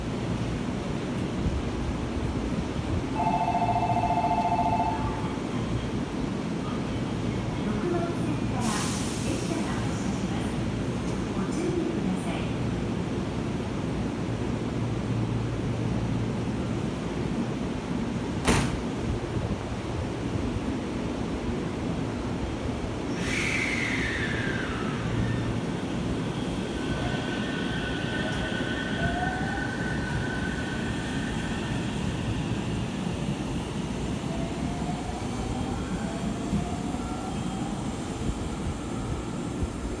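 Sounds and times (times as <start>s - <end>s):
train wheels rumbling on rails: 5.1s - 40.0s.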